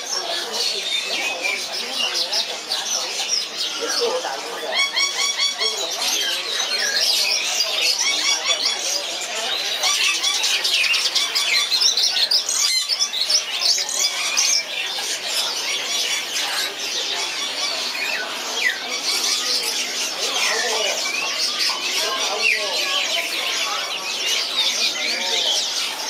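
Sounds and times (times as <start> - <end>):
many birds chirping and squawking: 0.0 - 26.0.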